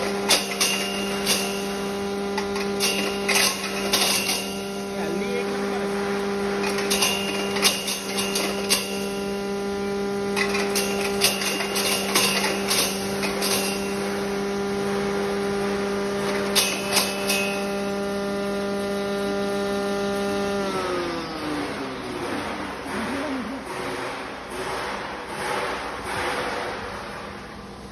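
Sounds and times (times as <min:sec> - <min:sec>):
grinder humming: 0:00.0 - 0:27.2.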